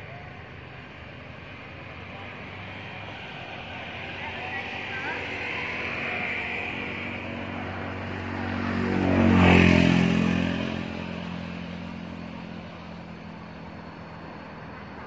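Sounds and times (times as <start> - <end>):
vehicle engine driving past: 0.0 - 15.0.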